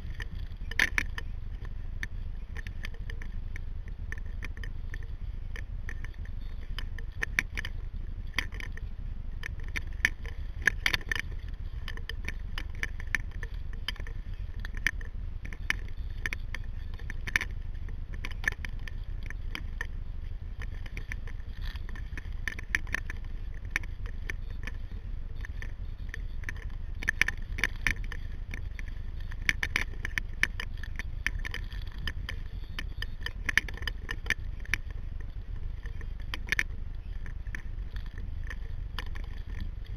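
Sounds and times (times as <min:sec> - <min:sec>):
low rumble of wind or water: 0:00.0 - 0:39.9.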